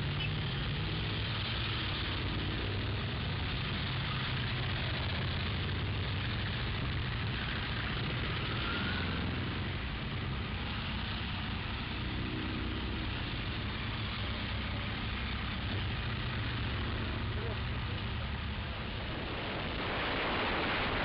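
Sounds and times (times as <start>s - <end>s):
motorcycle engines humming: 0.0s - 21.0s
wind and road noise: 0.0s - 21.0s.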